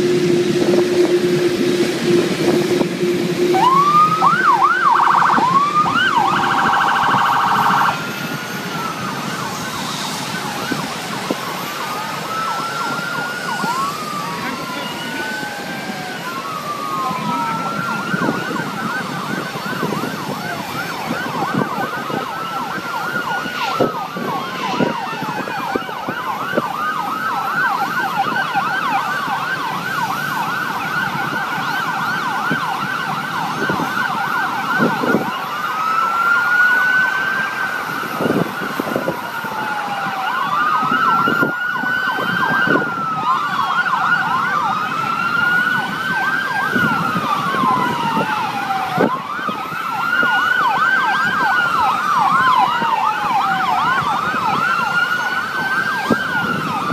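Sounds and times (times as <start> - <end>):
emergency sirens wailing and yelping: 0.0 - 56.9.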